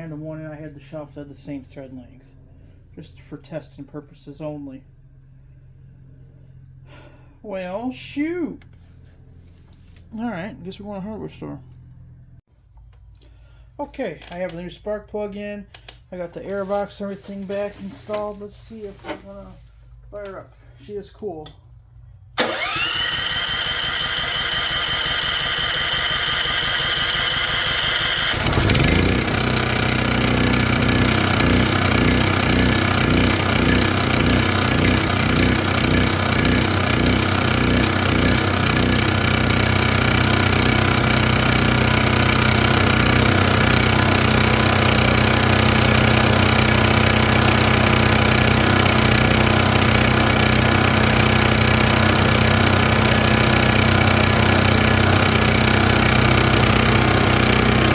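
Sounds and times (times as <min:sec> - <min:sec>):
generator engine starting and running: 0:00.0 - 0:14.4, 0:22.0 - 0:57.9.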